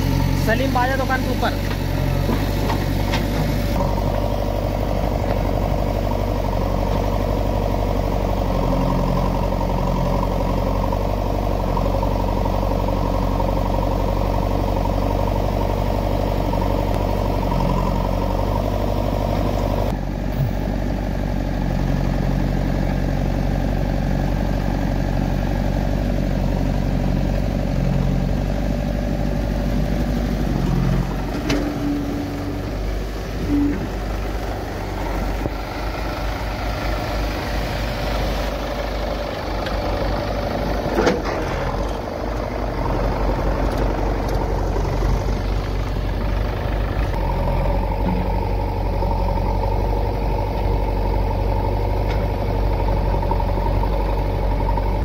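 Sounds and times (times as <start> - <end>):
diesel engines idling: 0.0 - 55.0.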